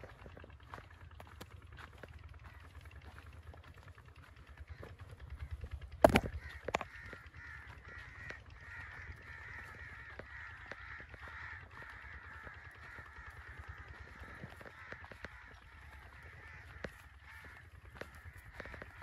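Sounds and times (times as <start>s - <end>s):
flock of birds chattering: 0.0s - 19.0s
light footsteps: 0.0s - 19.0s
low rumble: 0.0s - 19.0s.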